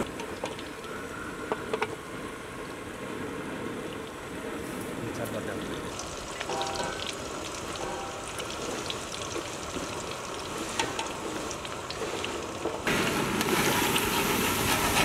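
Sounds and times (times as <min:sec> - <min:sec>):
fries sizzling in hot oil: 0:00.0 - 0:02.0, 0:03.8 - 0:15.0.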